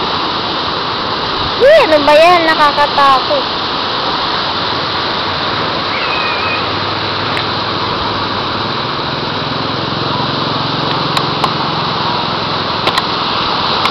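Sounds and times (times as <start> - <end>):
water rushing through dam: 0.0 - 13.9.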